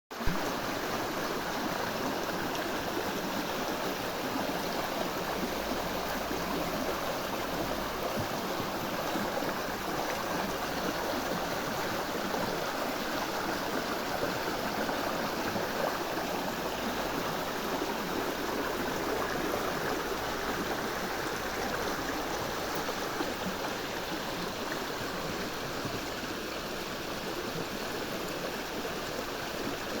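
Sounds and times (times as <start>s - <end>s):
river water rushing over rocks: 0.2s - 30.0s.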